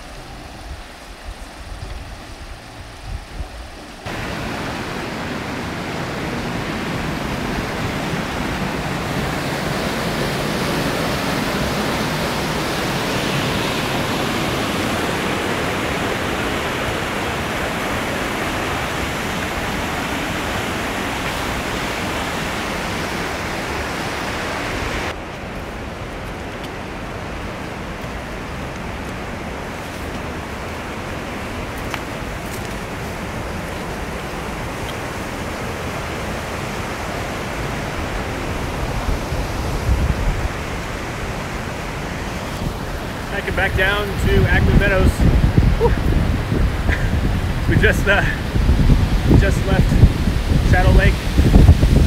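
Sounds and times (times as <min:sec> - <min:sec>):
creek rushing over rocks: 0:00.0 - 0:52.0.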